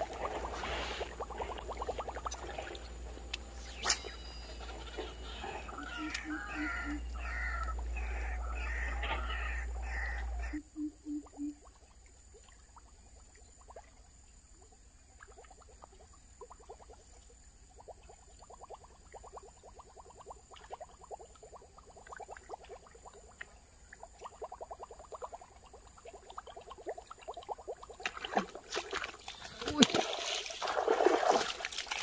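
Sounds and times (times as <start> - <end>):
faint water sounds: 0.0 - 32.0.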